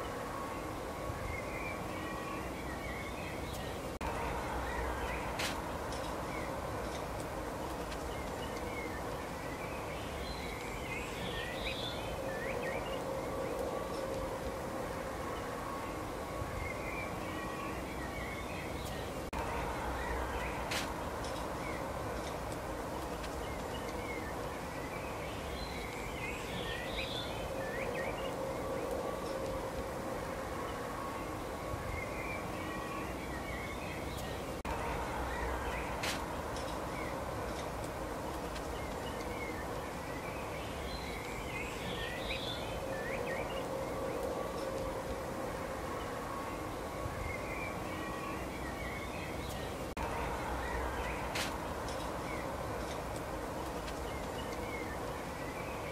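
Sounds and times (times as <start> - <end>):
faint steady hum: 0.0 - 55.9
faint steady tones: 0.0 - 55.9
small songbirds twittering: 0.0 - 55.9
steady hiss: 0.0 - 55.9.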